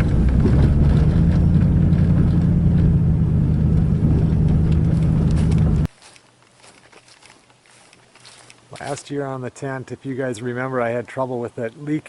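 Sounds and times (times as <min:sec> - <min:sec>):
truck engine and road rumble: 0:00.0 - 0:09.8.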